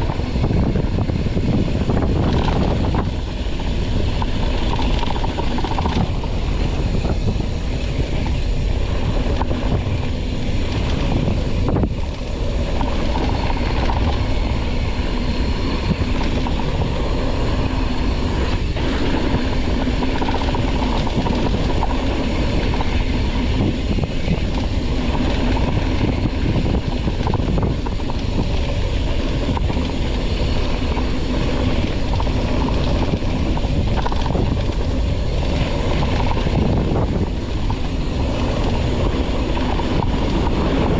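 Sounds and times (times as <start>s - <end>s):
bike rattling: 0.0s - 40.9s
wind rushing over microphone: 0.0s - 40.9s.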